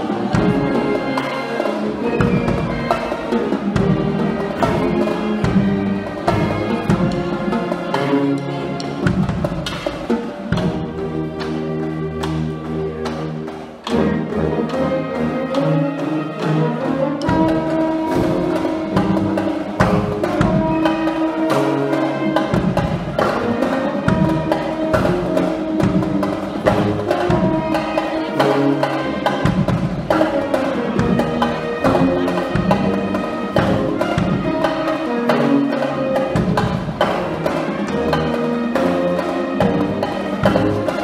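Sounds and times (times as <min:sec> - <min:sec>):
drums striking: 0:00.0 - 0:14.9, 0:17.1 - 0:41.0
brass band playing: 0:00.0 - 0:41.0.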